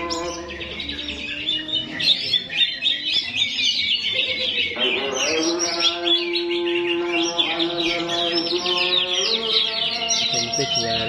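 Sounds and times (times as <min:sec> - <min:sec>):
songbird chirping and trilling: 0:00.0 - 0:11.0.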